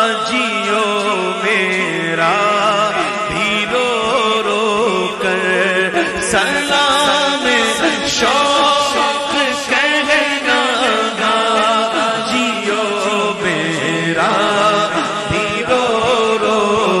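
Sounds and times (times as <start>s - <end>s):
chorus backing vocals: 0.0s - 17.0s
men singing unaccompanied: 0.0s - 17.0s.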